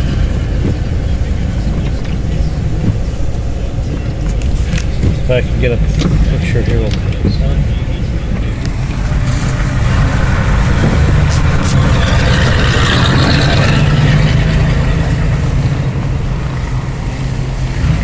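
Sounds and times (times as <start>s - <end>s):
car engine idling: 0.0s - 18.0s
wind blowing hard: 0.0s - 18.0s.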